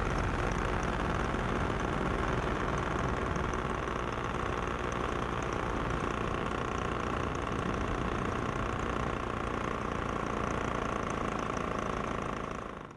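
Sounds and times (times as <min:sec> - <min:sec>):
paramotor engine drone: 0:00.0 - 0:12.9.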